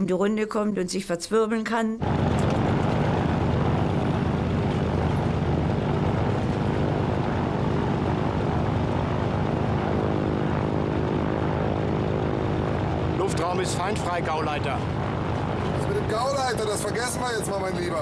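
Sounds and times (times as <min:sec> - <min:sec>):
propeller aircraft engine drone: 0:02.0 - 0:18.0.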